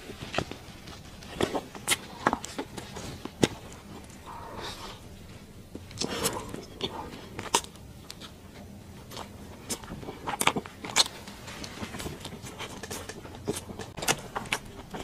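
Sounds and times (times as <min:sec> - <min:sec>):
person chewing bread: 0:00.0 - 0:15.0.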